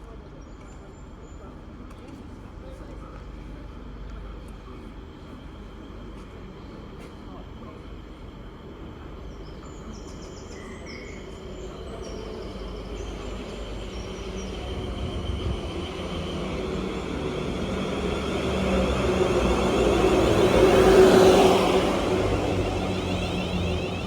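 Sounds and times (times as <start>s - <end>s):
train approaching: 2.4s - 24.0s.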